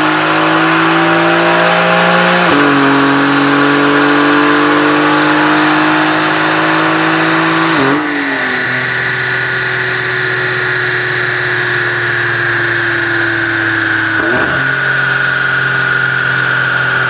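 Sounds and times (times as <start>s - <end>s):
sports car engine revving on dyno: 0.0s - 17.0s.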